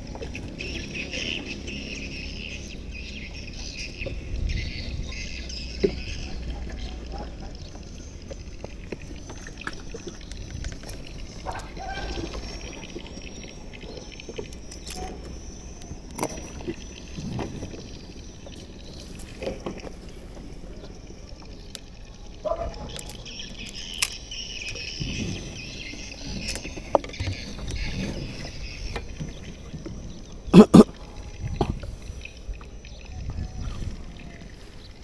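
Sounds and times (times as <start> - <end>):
water lapping at boat hull: 0.0 - 35.0.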